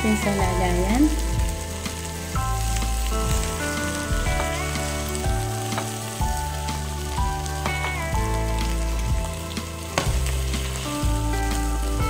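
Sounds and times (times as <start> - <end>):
background music: 0.0 - 12.0
meat sizzling in a frying pan: 0.0 - 12.0.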